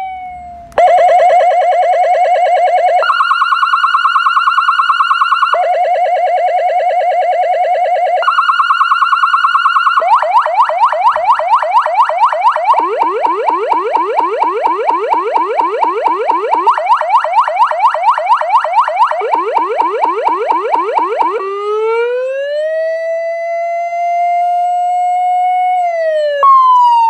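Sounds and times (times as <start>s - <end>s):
electronic police siren: 0.0s - 27.0s.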